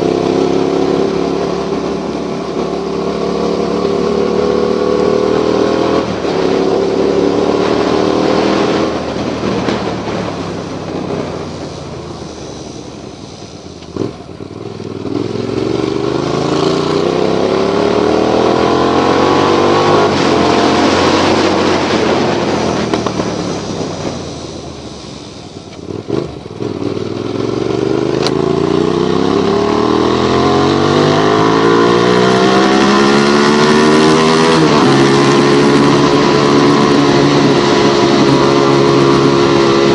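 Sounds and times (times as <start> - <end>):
motorcycle engine accelerating: 0.0 - 39.9
wind and road noise hiss: 0.0 - 39.9.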